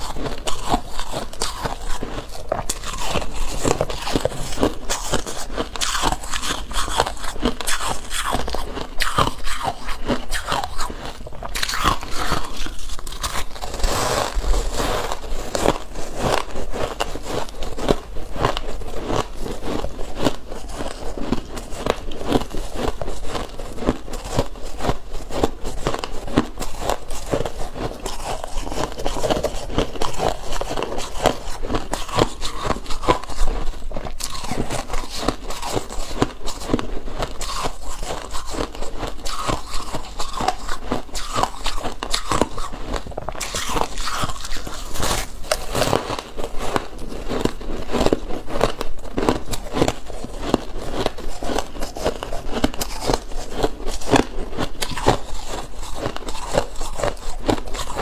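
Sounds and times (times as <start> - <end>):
shaved ice crunching: 0.0 - 58.0.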